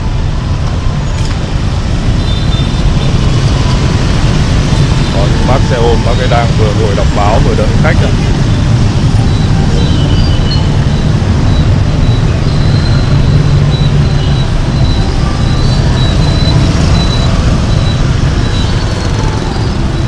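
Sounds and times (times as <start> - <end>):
dense city traffic rumble: 0.0 - 20.0.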